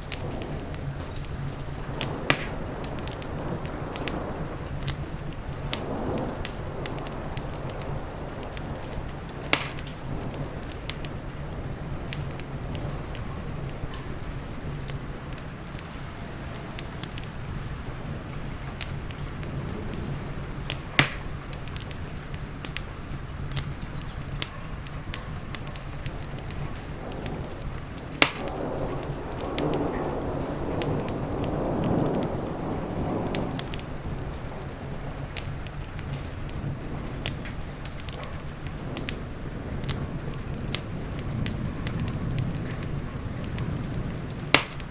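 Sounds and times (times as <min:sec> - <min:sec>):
steady rain: 0:00.0 - 0:44.9
thunder rumble: 0:00.0 - 0:44.9
wood fire crackling and popping: 0:00.0 - 0:44.9.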